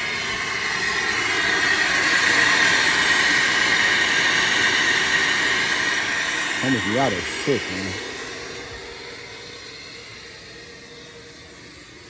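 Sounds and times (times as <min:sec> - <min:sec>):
rushing machine noise with whine: 0:00.0 - 0:12.0.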